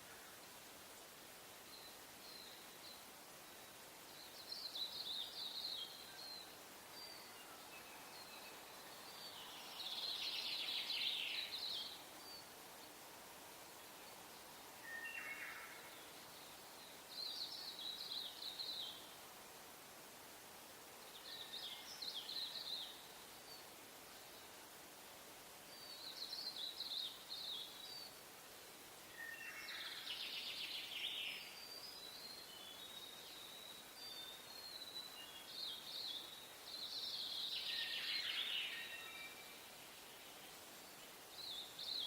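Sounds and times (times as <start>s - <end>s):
faint hiss: 0.0s - 42.0s.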